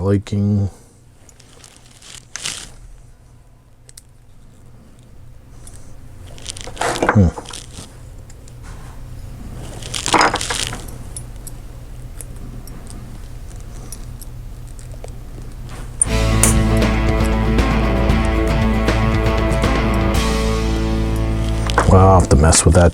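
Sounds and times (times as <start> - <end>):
low hum: 2.8 - 22.8.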